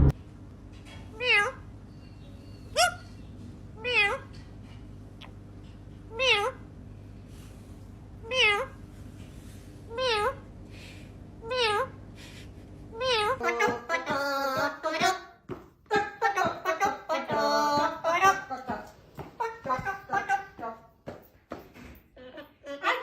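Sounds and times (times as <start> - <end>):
steady low hum: 0.0 - 22.5.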